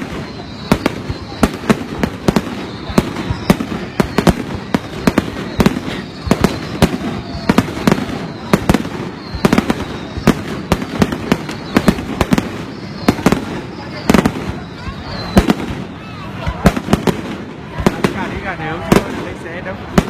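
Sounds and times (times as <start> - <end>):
fireworks rumble and crackle: 0.0 - 20.0.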